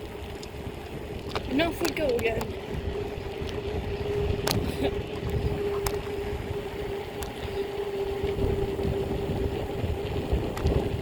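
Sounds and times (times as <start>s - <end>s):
bike tyres on pavement: 0.0s - 11.0s
wind rumbling on microphone: 0.0s - 11.0s.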